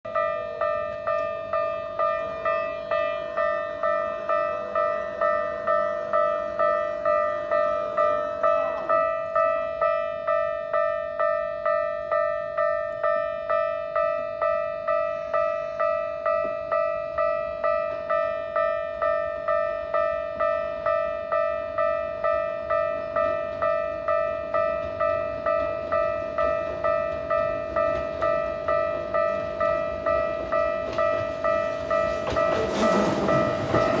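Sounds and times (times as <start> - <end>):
level-crossing warning bell: 0.1 - 34.0.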